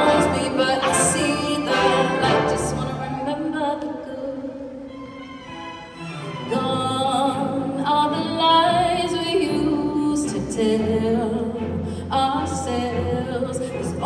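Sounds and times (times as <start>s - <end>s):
woman singing: 0.0s - 4.9s, 6.5s - 14.0s
symphony orchestra: 0.0s - 14.0s.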